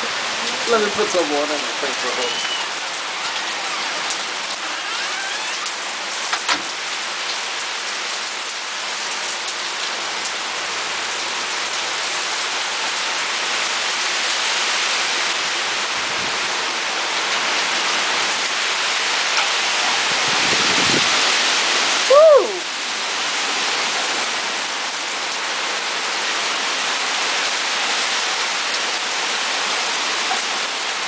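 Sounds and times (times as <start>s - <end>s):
heavy rain on trees: 0.0s - 31.0s.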